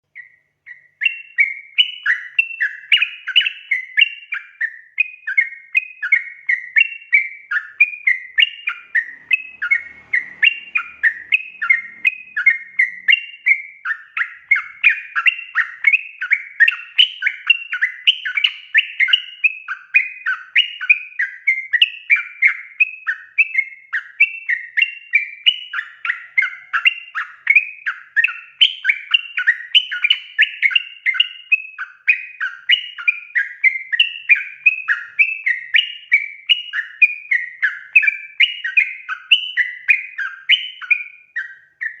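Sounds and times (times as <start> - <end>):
bird chattering song: 0.1 - 42.0.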